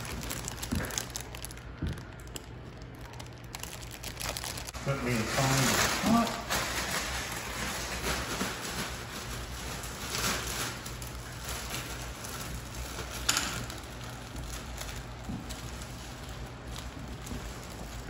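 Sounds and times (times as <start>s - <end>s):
foil balloon crinkling: 0.0s - 18.0s.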